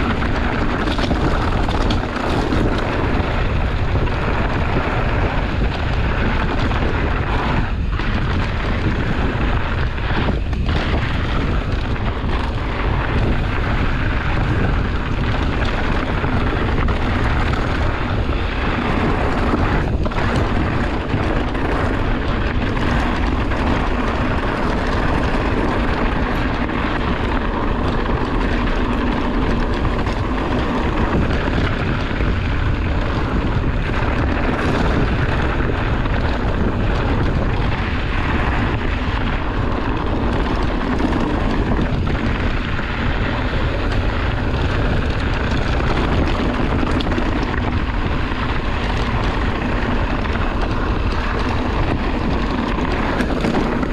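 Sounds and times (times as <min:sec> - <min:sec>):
wind rushing on bike microphone: 0:00.0 - 0:53.9.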